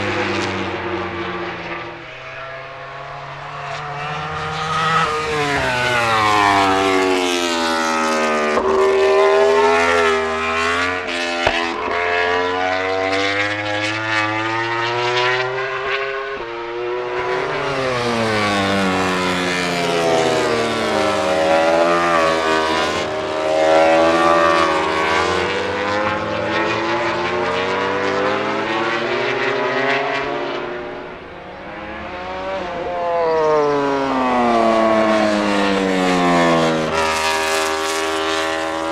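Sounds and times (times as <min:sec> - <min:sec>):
racing motorcycles passing: 0:00.0 - 0:38.9.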